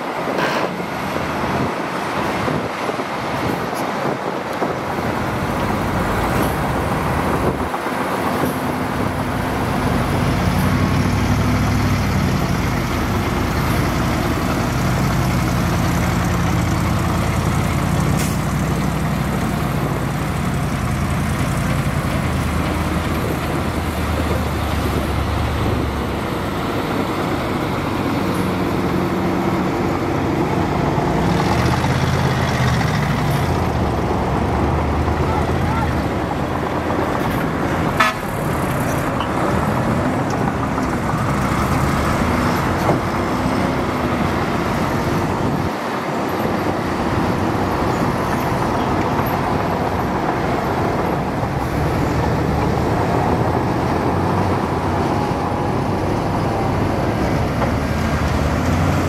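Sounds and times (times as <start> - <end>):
bulldozer diesel engine working: 0.0 - 59.0.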